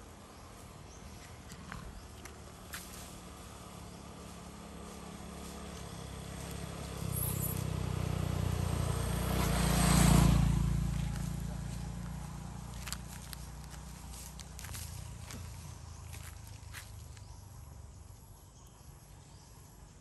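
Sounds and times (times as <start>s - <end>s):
vehicle engine passing: 0.3s - 17.8s.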